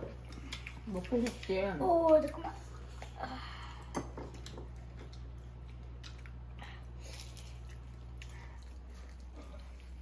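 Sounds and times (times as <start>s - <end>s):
people chewing food: 0.0s - 10.0s
steady low hum: 0.0s - 10.0s.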